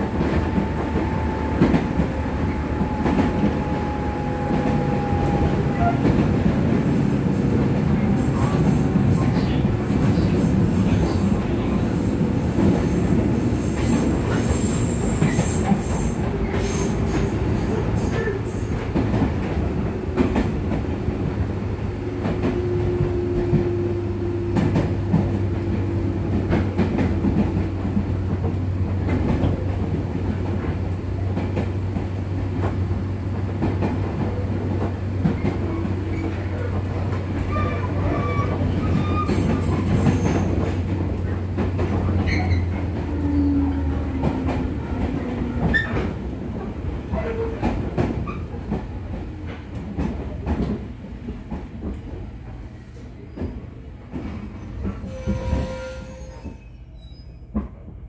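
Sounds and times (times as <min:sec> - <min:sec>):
train running rumble: 0:00.0 - 0:56.6.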